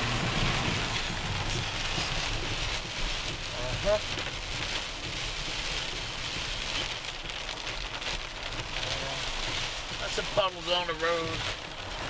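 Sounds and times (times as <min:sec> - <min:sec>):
heavy rain drumming on car roof: 0:00.0 - 0:12.0
low road rumble: 0:00.0 - 0:12.0.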